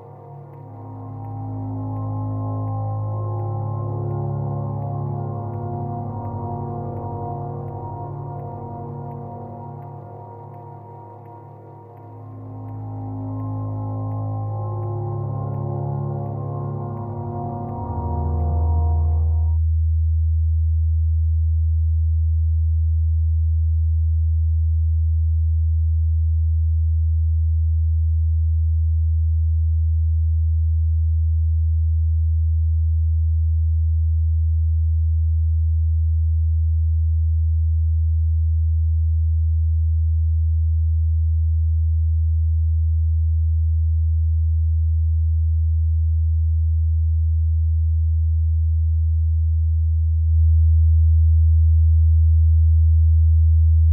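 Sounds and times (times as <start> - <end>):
steady low-pitched hum: 0.0 - 53.9.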